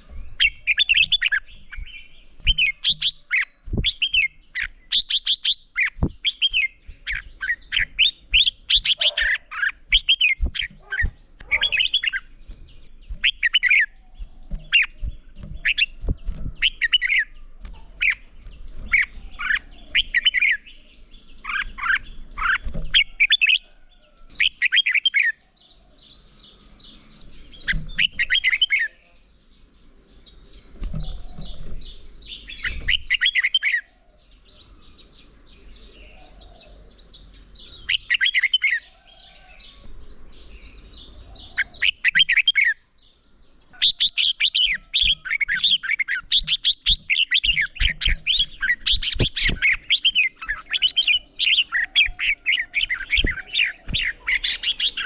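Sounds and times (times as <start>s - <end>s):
birds singing bright chirping: 0.0s - 55.0s.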